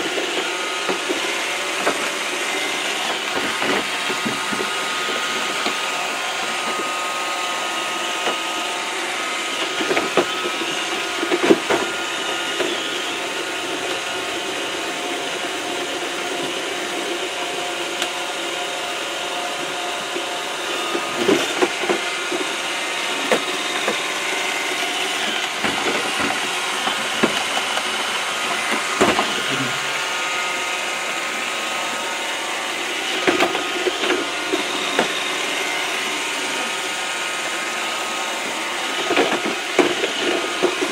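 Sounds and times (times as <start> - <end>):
robot vacuum bumping walls: 0.0 - 7.2, 8.2 - 14.1, 20.0 - 31.6, 32.5 - 40.9
robot vacuum motor whirring: 0.0 - 40.9.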